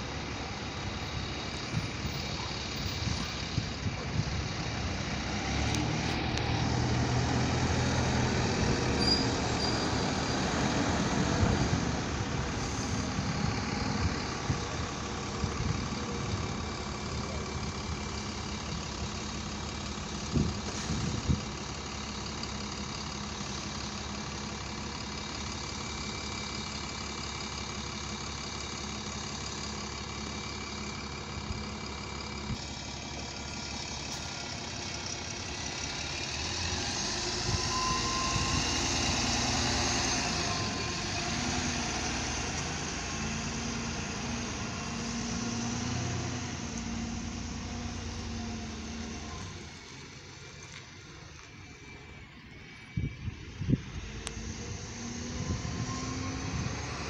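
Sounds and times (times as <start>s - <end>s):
bus engine pulling away: 0.0s - 57.0s
engine idle hum: 0.0s - 57.0s.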